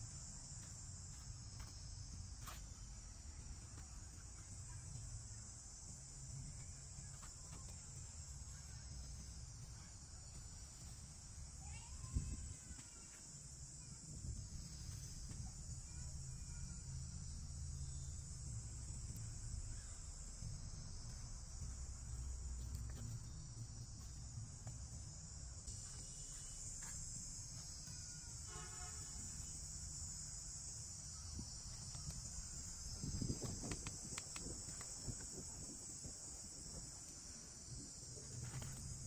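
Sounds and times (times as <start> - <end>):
insects chorus: 0.0 - 39.0.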